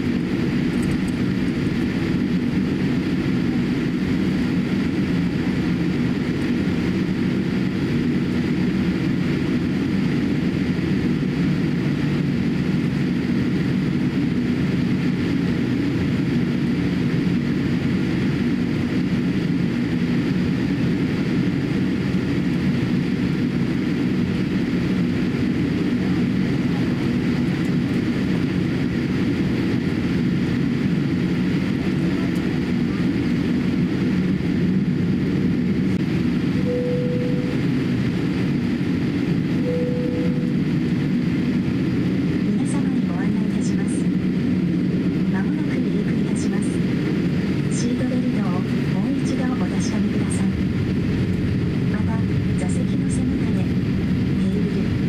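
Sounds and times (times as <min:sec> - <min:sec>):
aircraft cabin engine hum: 0:00.0 - 0:55.0.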